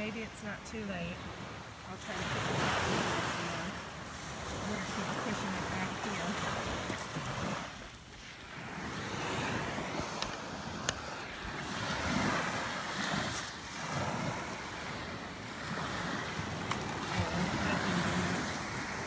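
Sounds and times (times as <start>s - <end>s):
surf washing onto beach: 0.0s - 19.0s.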